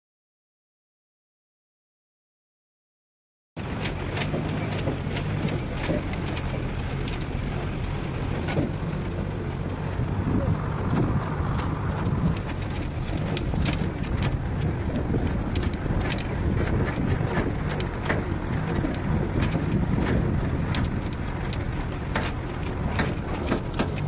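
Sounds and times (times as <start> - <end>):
drilling rig engine running: 3.6 - 24.0.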